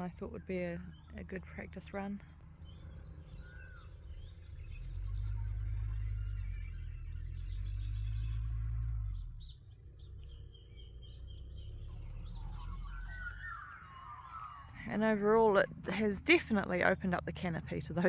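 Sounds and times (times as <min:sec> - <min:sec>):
birds chirping: 0:00.0 - 0:18.0
low rumble: 0:00.0 - 0:18.0.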